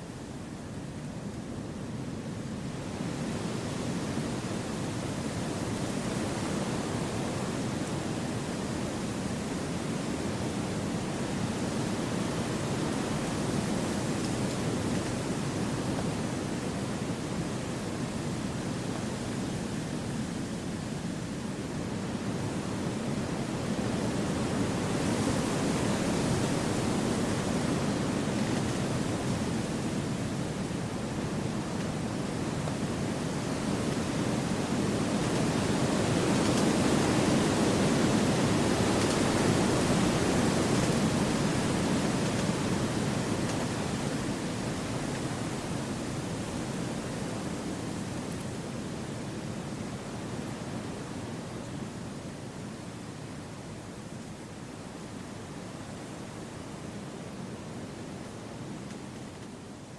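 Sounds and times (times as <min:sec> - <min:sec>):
wind through trees: 0:00.0 - 0:59.9.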